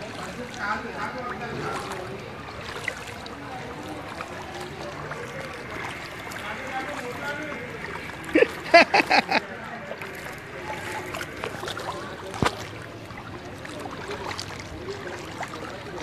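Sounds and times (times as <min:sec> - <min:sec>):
floodwater sloshing and splashing: 0:00.0 - 0:16.0.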